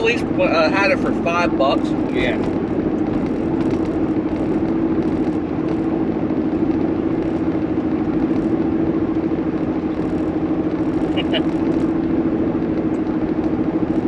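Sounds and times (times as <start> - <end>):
road and engine noise inside car: 0.0 - 14.0.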